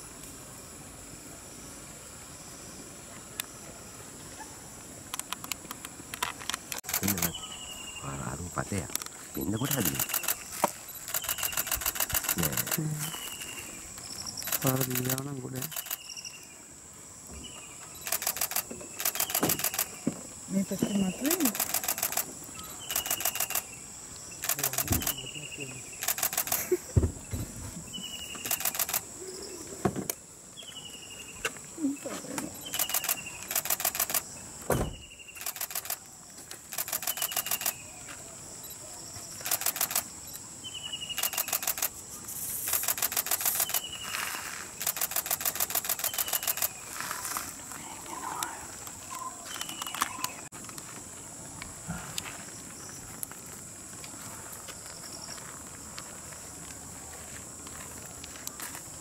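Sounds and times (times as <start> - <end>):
steady high hiss: 0.0 - 54.6
insects chirping: 0.0 - 59.0.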